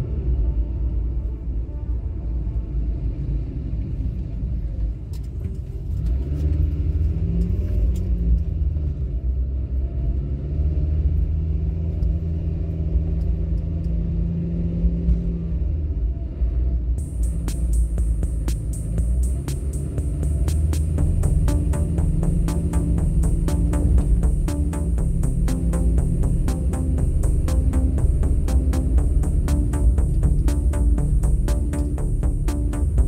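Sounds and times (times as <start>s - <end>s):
car engine and road noise: 0.0s - 33.0s
steady engine hum: 0.0s - 33.0s.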